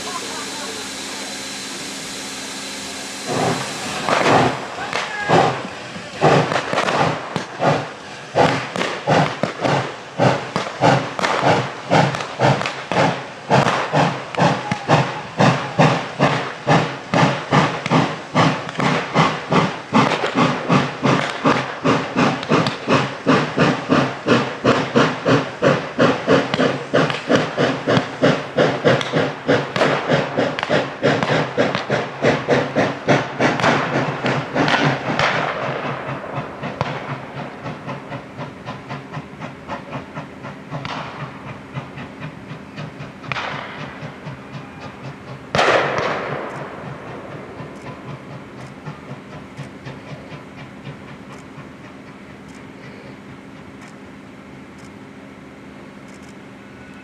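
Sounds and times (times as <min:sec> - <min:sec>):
steady steam hiss: 0:00.0 - 0:57.0
steam locomotive chuffing: 0:00.0 - 0:57.0.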